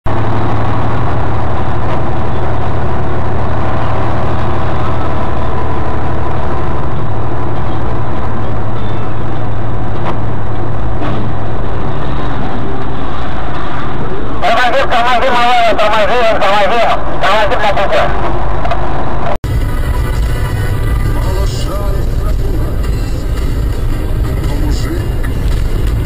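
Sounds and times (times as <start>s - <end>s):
car engine hum: 0.0s - 26.0s
tyres rushing on wet road: 0.1s - 26.0s.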